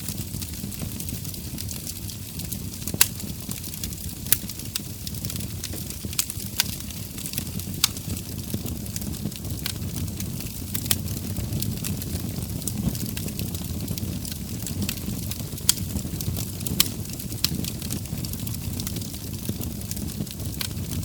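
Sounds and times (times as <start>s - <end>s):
burning wood crackling and popping: 0.0s - 21.0s
fire rumbling: 0.0s - 21.0s.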